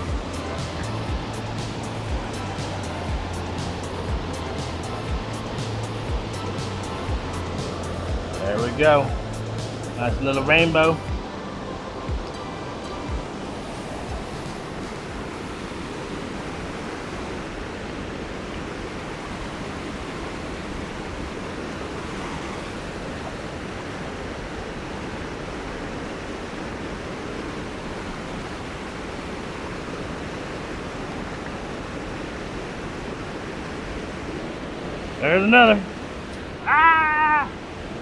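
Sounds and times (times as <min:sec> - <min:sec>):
river water rushing over rocks: 0:00.0 - 0:38.0.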